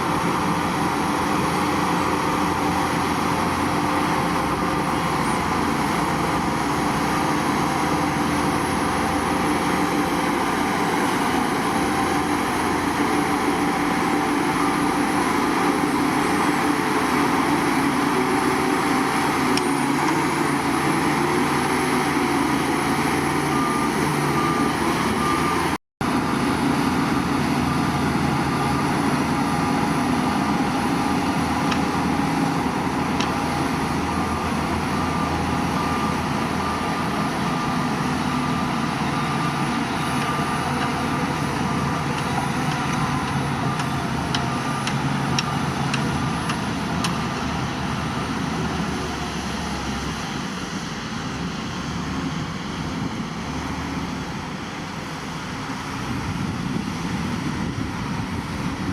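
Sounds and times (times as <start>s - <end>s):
diesel machinery engine drone: 0.0s - 58.9s.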